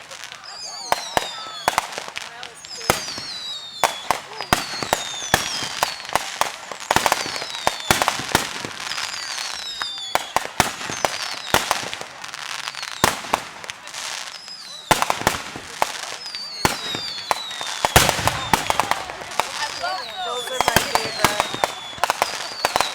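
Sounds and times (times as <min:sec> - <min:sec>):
fireworks bangs and crackling: 0:00.0 - 0:22.9
fireworks whistling: 0:00.0 - 0:22.9.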